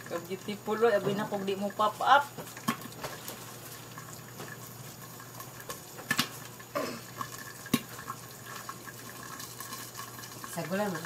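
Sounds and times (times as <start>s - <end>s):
oil sizzling: 0.0s - 11.0s
popcorn popping: 0.0s - 11.0s.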